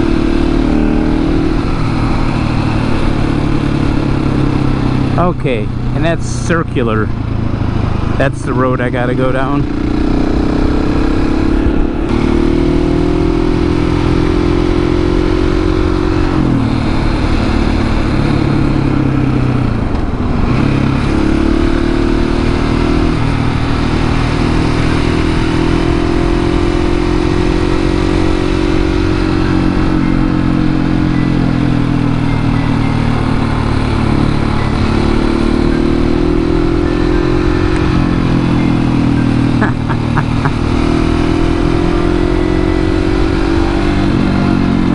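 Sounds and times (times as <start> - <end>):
motorcycle engine: 0.0 - 44.9
wind and road noise: 0.0 - 44.9.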